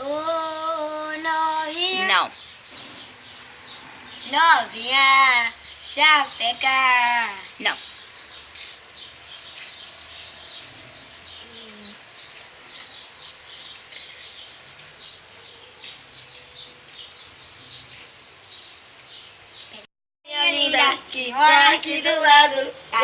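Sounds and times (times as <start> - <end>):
faint background noise: 0.0 - 23.0
small birds chirping: 0.0 - 23.0.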